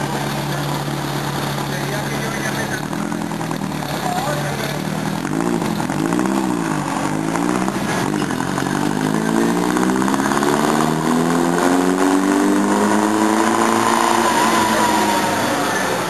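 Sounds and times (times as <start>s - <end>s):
small car engine revving: 0.0s - 16.0s.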